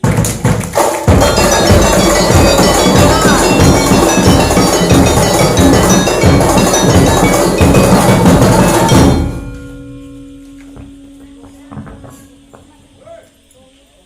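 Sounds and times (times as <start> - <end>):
percussion music drums and mallets: 0.0 - 13.0.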